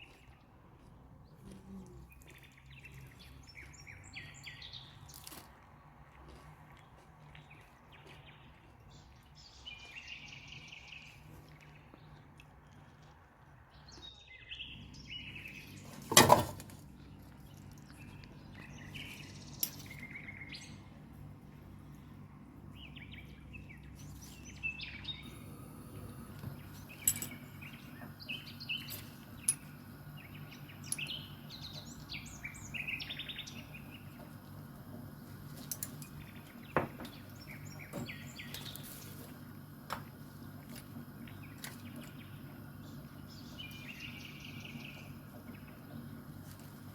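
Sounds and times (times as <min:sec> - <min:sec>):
small birds chirping: 0:00.0 - 0:05.6, 0:06.2 - 0:16.0, 0:16.9 - 0:46.9
low steady hum: 0:00.0 - 0:46.9.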